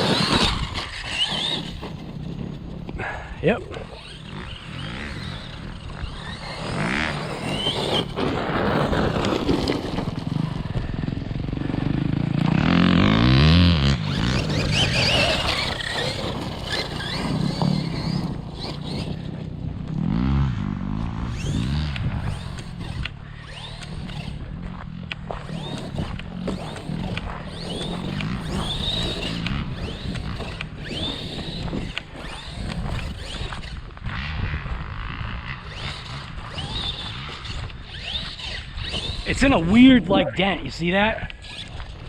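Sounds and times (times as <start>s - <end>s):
dirt bike engine revving: 0.0s - 42.0s
electric rc truck motor whining: 0.0s - 42.0s.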